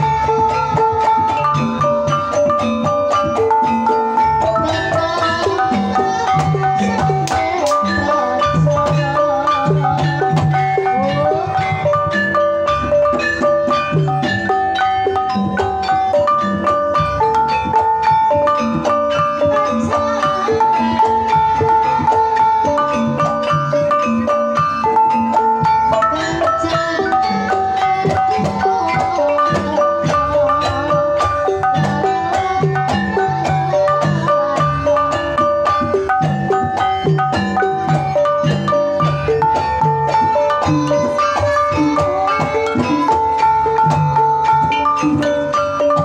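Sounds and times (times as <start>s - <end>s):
bronze metallophones ringing: 0.0s - 46.0s
drum strokes: 0.0s - 46.0s.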